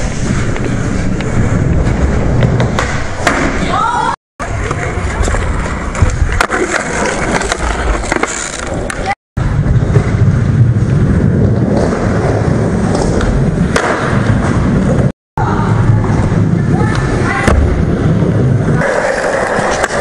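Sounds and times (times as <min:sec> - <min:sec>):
skateboard wheels rolling on concrete: 0:00.0 - 0:20.0.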